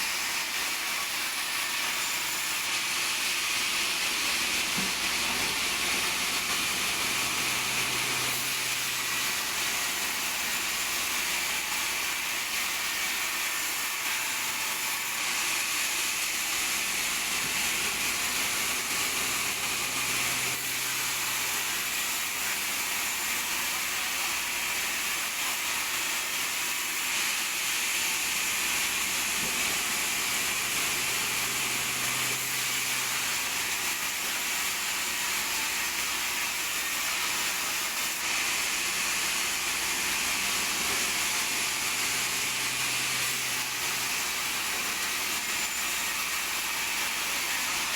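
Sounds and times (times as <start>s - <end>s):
saw cutting through wood: 0.0s - 47.9s.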